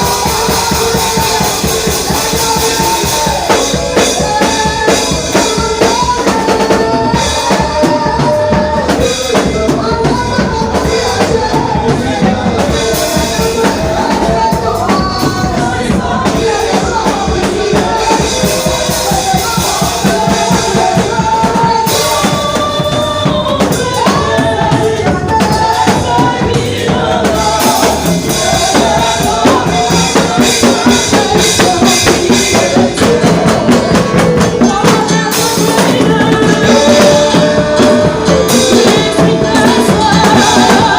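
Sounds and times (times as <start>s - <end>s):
drum kit beat: 0.0s - 40.9s
gospel band music: 0.0s - 40.9s.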